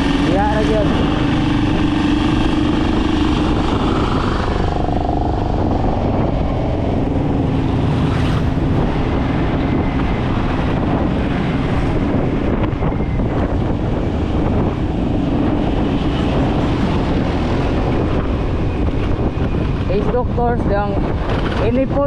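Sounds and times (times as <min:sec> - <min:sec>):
motorcycle engine running: 0:00.0 - 0:20.4
wind rushing over microphone: 0:00.0 - 0:22.0.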